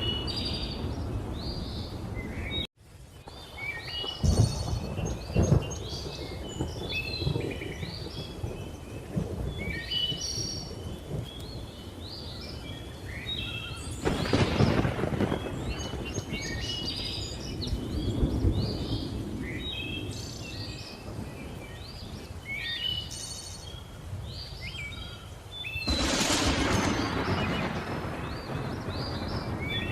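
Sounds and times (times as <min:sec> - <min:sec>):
thunder rumbling: 0:00.0 - 0:12.5, 0:13.6 - 0:22.4, 0:25.8 - 0:29.9.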